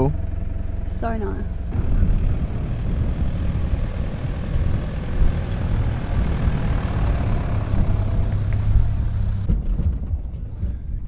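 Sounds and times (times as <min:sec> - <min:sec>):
car engine idling: 0:00.0 - 0:09.5
wind rumble on microphone: 0:01.6 - 0:11.0.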